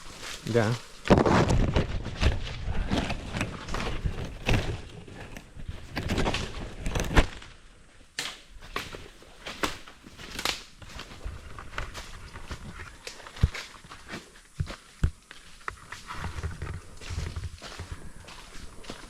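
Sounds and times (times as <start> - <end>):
footsteps crunching on trail: 0.0 - 19.0.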